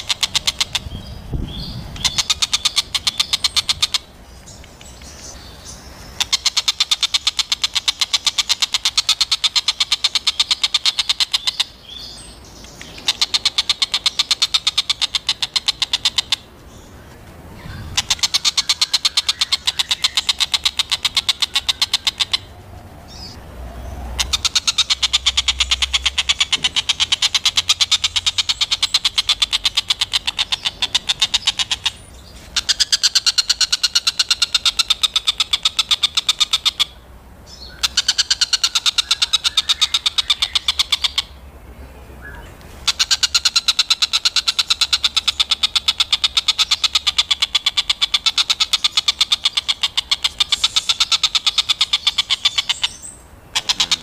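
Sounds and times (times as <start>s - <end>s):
bird chattering calls: 0.0s - 16.9s, 17.5s - 23.4s, 24.1s - 41.4s, 42.2s - 54.0s.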